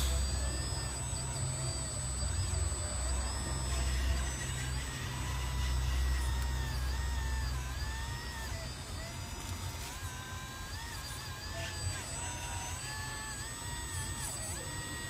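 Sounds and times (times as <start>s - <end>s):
steady low hum: 0.0s - 15.0s
toy electric motors whining: 0.0s - 15.0s.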